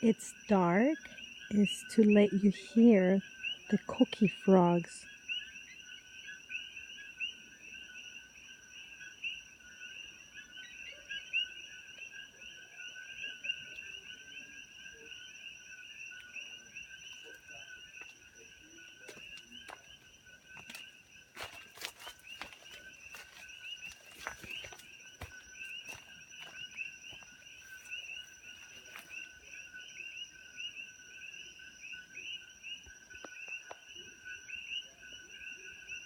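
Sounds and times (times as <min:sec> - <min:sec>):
chorus of frogs calling: 0:00.0 - 0:36.0.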